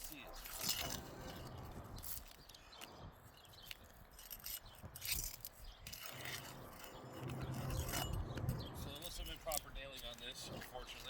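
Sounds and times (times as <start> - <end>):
metal pry tool scraping: 0.0 - 11.0.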